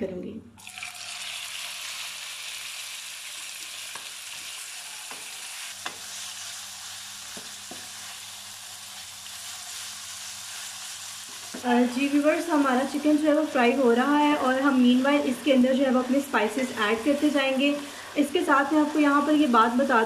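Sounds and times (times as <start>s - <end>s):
meat sizzling in hot oil: 0.6s - 20.0s.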